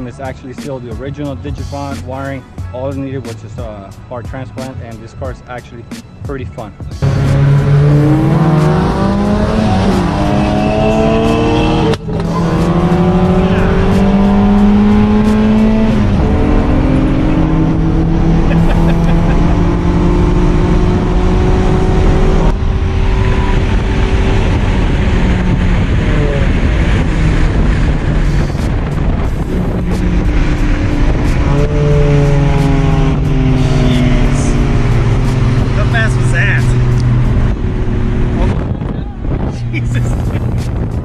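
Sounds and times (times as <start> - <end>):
car engine accelerating hard: 7.0 - 41.0.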